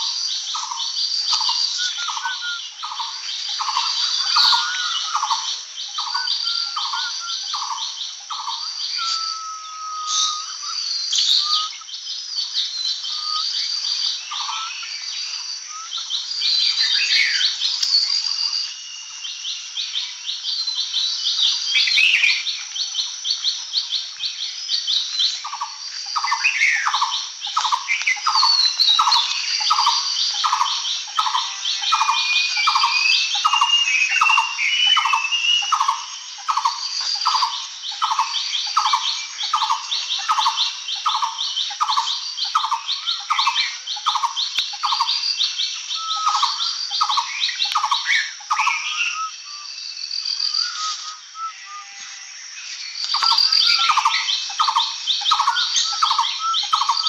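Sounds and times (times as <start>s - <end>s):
birds singing and calling: 0.0s - 57.0s.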